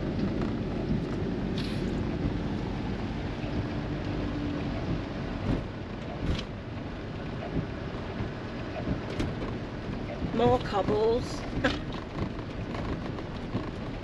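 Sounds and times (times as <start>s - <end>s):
engine and tyres rumbling: 0.0s - 14.0s.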